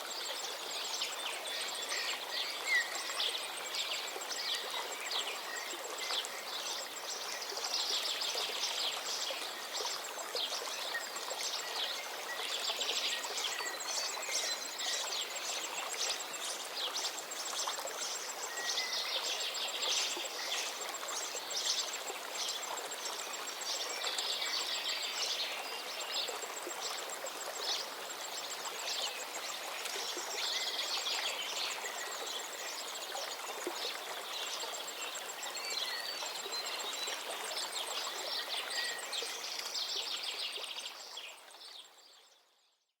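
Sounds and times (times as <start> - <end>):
songbirds singing and chirping: 0.2 - 42.8.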